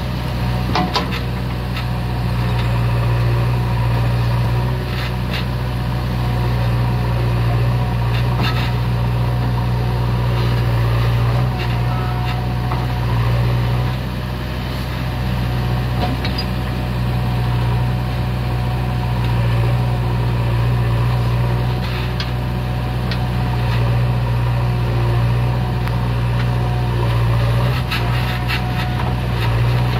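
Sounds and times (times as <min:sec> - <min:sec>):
diesel engine running with deep hum: 0:00.0 - 0:29.9.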